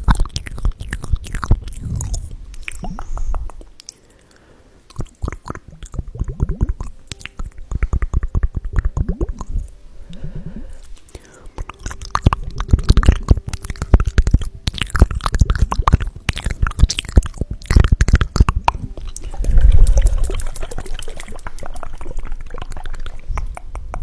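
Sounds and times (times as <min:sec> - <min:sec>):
liquid sounds: 0:00.0 - 0:04.3, 0:04.9 - 0:24.0.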